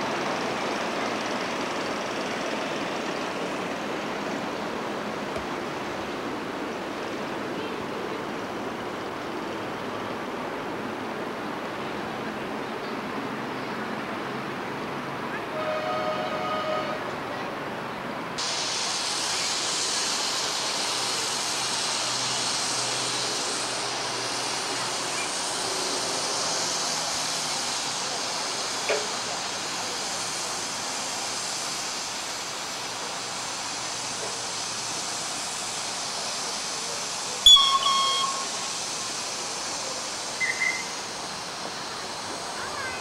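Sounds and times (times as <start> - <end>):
steam hissing: 0.0 - 12.5, 18.4 - 43.0.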